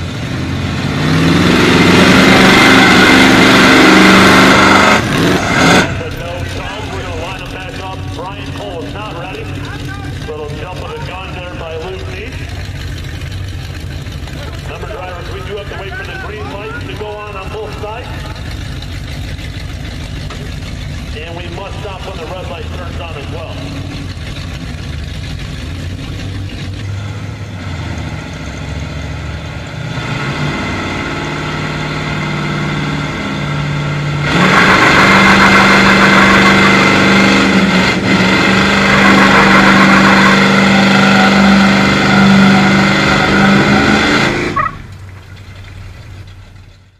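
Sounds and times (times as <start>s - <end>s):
truck engines revving: 0.0s - 46.9s.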